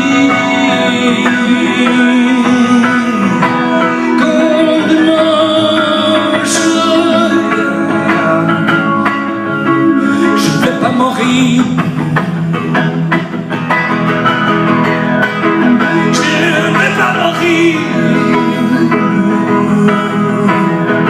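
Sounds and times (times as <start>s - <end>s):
band accompaniment: 0.0s - 21.0s
plucked and strummed guitar: 0.0s - 21.0s.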